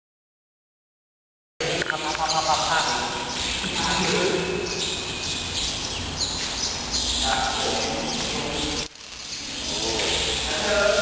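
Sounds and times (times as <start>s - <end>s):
background chatter of many voices: 1.6s - 11.0s.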